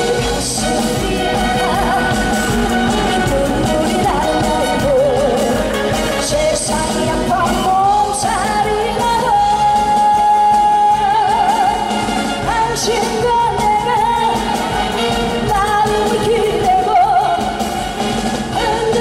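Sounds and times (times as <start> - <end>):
woman singing into microphone: 0.0 - 17.8, 18.5 - 19.0
loud backing music: 0.0 - 19.0.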